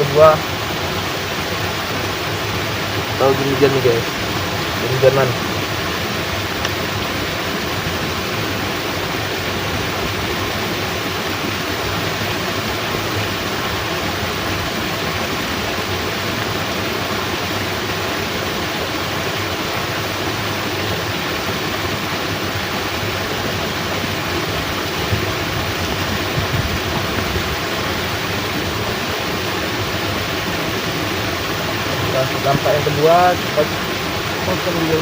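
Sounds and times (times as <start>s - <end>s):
water rushing through sluice gate: 0.0s - 35.0s.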